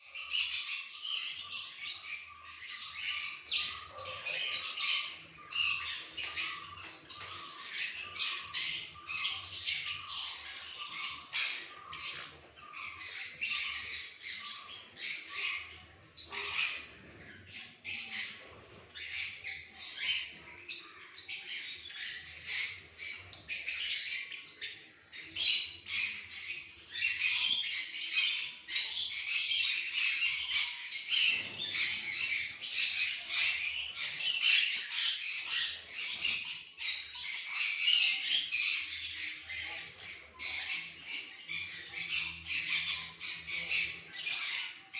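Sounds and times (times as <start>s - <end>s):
small birds chattering and squawking: 0.0s - 44.9s.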